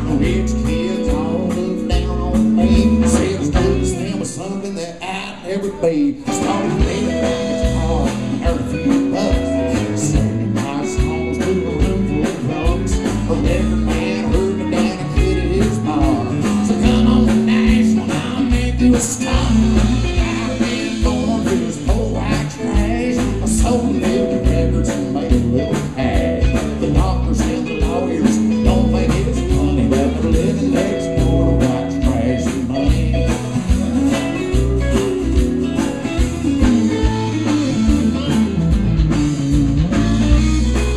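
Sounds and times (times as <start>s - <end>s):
person singing: 0.0s - 37.6s
country band playing live: 0.0s - 40.9s.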